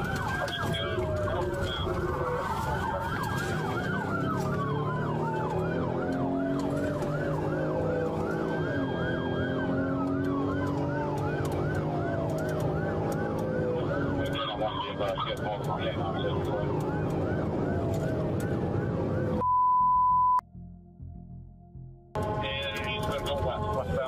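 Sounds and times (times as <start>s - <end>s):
police siren yelping: 0.0s - 19.4s
vehicle noise: 0.0s - 19.4s, 22.1s - 24.0s
wailing siren: 0.0s - 19.4s, 22.2s - 24.0s.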